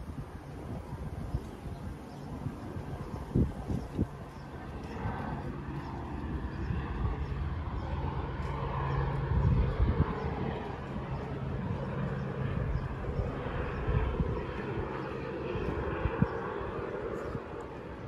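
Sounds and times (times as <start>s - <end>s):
low engine drone: 0.0s - 18.0s
outdoor ambience: 0.0s - 18.0s.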